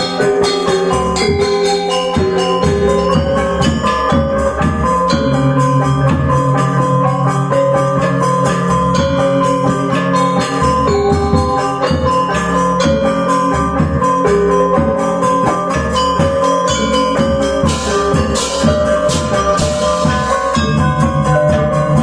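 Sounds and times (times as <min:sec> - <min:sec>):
gamelan ensemble playing: 0:00.0 - 0:22.0.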